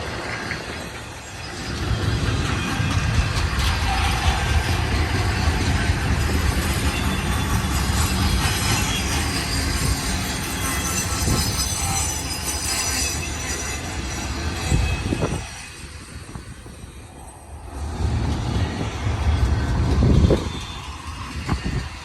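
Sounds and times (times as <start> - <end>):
freight train wheels rumbling: 0.0 - 22.0
wheels squealing: 0.0 - 22.0.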